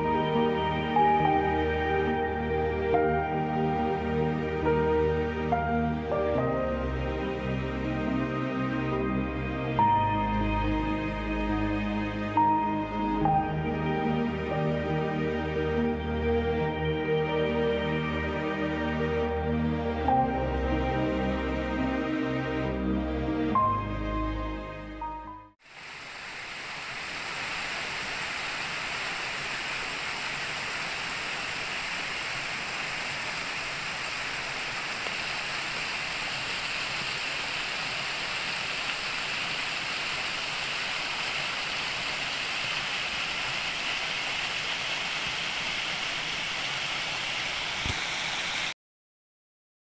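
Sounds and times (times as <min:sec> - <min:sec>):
waterfall and stream rushing: 0:00.0 - 0:22.6, 0:25.6 - 0:48.8.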